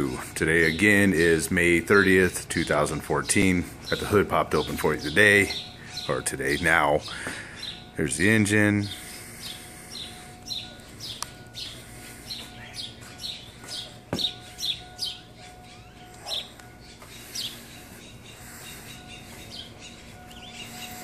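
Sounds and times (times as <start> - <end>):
birds chirping: 0.0 - 21.0
faint steady hum: 0.0 - 21.0.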